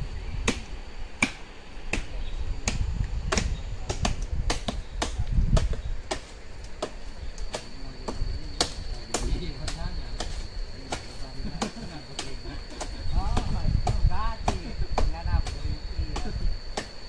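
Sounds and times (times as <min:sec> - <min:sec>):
machete chopping wood: 0:00.5 - 0:17.0.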